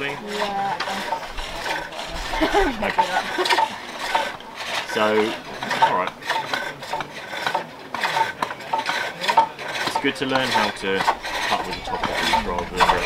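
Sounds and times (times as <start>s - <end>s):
hook tool scraping wood: 0.0s - 13.0s.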